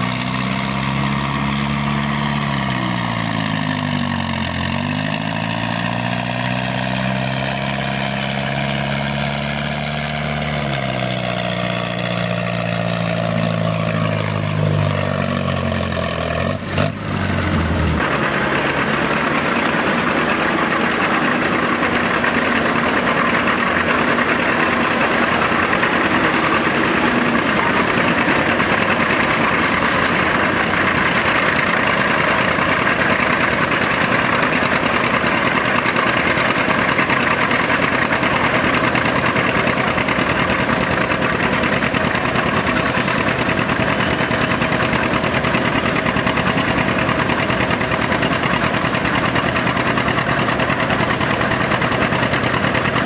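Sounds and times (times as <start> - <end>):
tractor engine running under load: 0.0 - 53.0.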